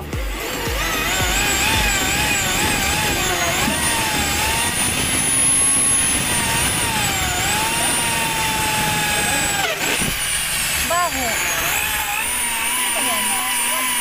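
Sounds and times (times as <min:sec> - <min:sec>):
electric drill whining: 0:00.0 - 0:14.0.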